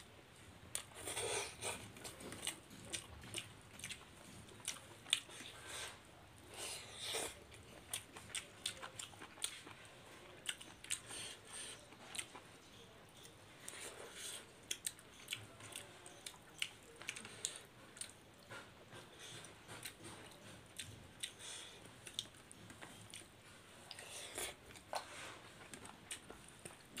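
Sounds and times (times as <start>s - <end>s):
people chewing food: 0.0s - 27.0s.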